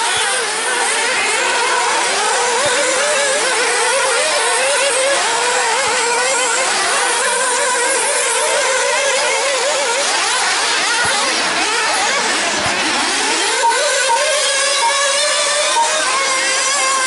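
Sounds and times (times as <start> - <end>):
high-pitched model engines buzzing: 0.0 - 17.0.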